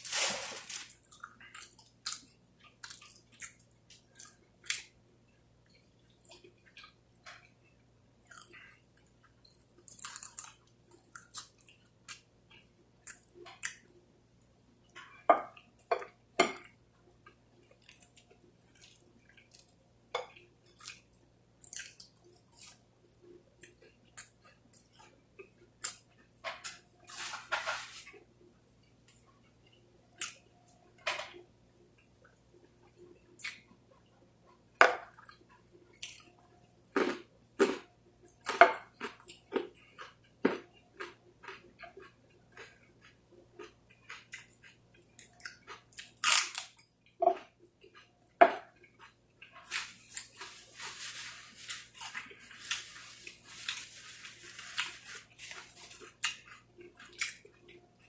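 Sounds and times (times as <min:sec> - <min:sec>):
person chewing fried food: 0:00.2 - 0:15.9, 0:16.6 - 0:27.3, 0:28.1 - 0:58.0.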